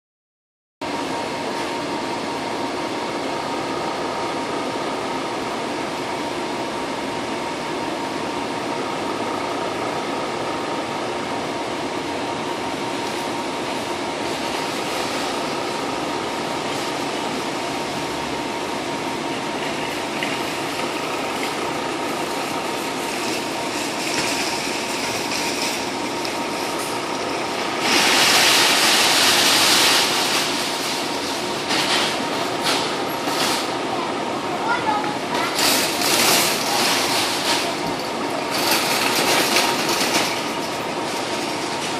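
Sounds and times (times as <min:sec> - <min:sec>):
outdoor background hum: 0:00.8 - 0:41.9.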